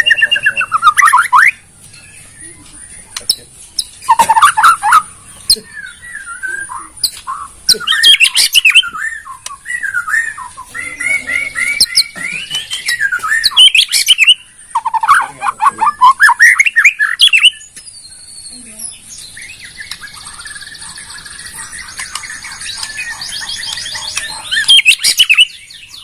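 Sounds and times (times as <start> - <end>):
bird singing whistled phrases: 0.0 - 1.6, 2.2 - 26.0.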